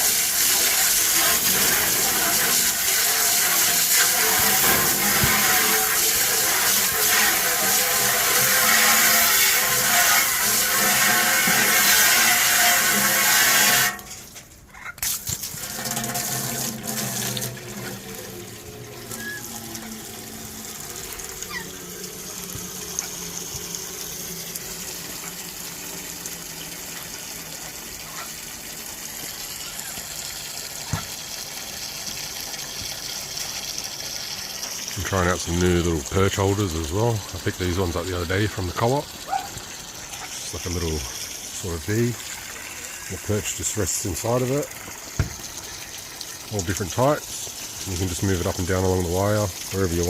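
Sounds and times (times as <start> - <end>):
garden hose spraying water: 0.0 - 50.0
soft hiss of water: 0.0 - 50.0.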